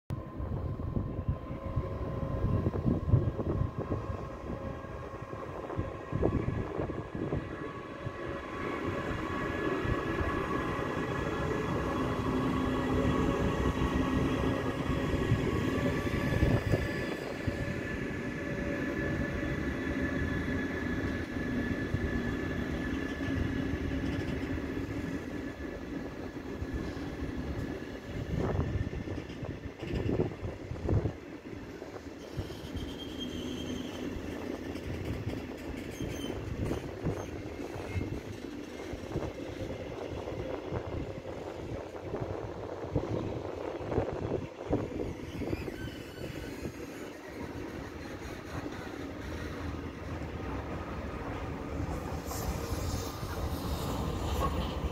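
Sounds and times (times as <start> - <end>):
rumble of train wheels on rails: 0.1 - 54.9.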